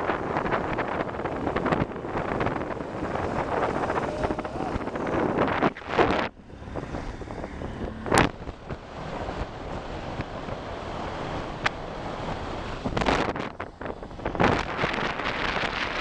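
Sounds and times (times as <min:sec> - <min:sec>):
motorcycle engine and road noise: 0:00.0 - 0:16.0
wind rushing over microphone: 0:00.0 - 0:16.0.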